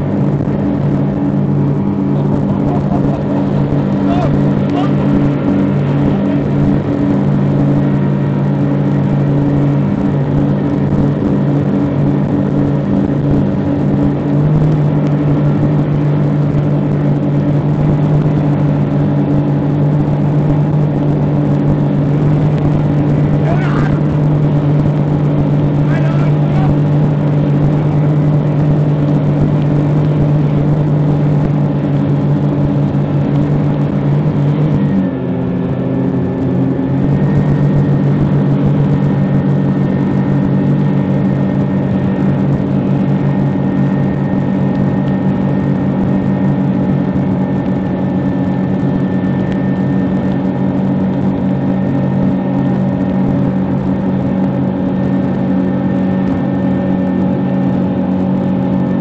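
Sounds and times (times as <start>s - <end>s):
boat engine droning: 0.0s - 59.0s
wind on microphone: 0.0s - 59.0s.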